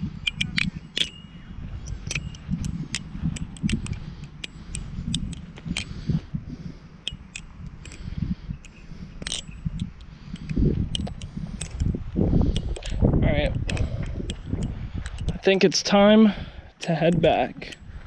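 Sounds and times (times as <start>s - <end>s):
butterfly knife clicking and clacking: 0.1s - 6.1s, 7.0s - 15.5s, 17.0s - 17.9s.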